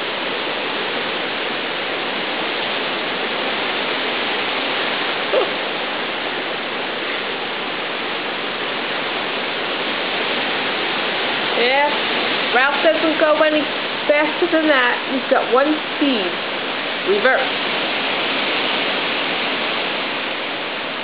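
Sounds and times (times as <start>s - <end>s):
driving rain: 0.0s - 21.0s
hurricane wind: 0.0s - 21.0s.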